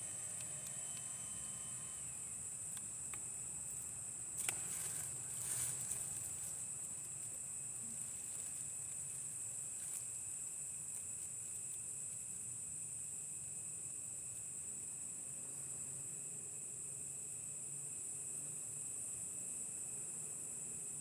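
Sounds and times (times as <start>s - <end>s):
high-pitched night ambience hiss: 0.0s - 21.0s.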